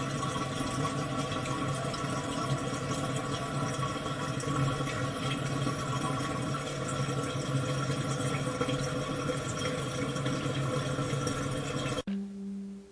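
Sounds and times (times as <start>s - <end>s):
toilet water running: 0.0s - 12.1s.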